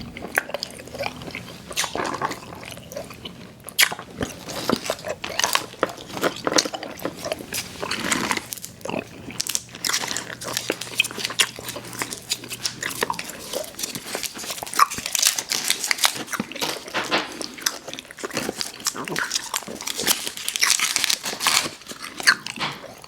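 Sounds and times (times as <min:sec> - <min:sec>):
chewing and crunching: 0:00.0 - 0:23.0.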